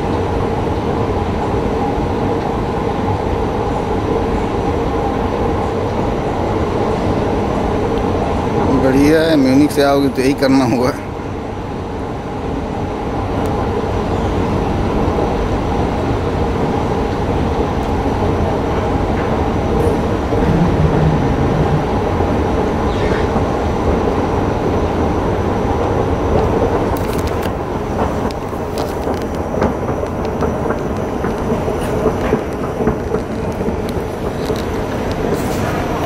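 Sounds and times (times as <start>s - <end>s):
moving walkway mechanical rumble: 0.0s - 36.0s.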